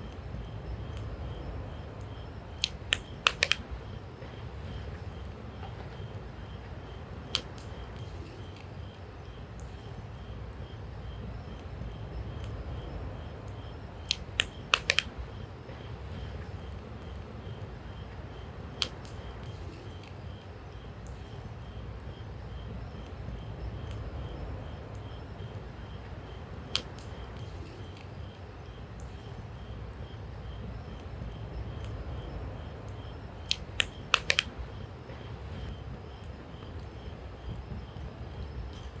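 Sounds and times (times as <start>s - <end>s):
steady low rumble: 0.0s - 39.0s
campfire crackling and popping: 2.0s - 12.6s, 13.4s - 20.2s, 24.9s - 39.0s.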